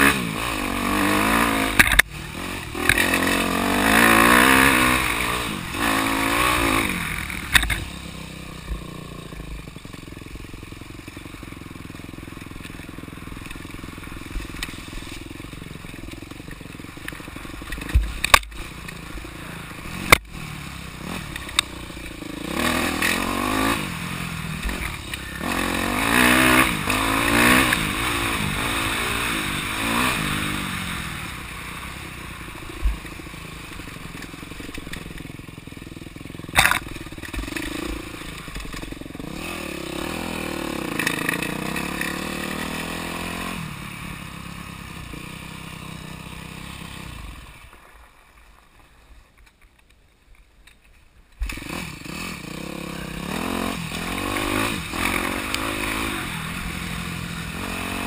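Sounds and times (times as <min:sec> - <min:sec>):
dirt bike engine revving: 0:00.0 - 0:47.6, 0:51.4 - 0:58.0.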